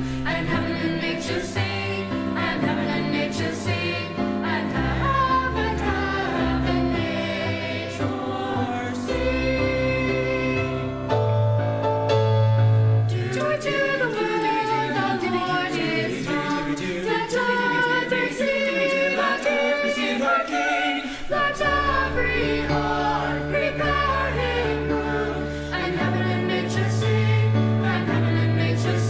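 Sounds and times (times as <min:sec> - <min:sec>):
choir singing in harmony: 0:00.0 - 0:11.8, 0:12.6 - 0:29.0.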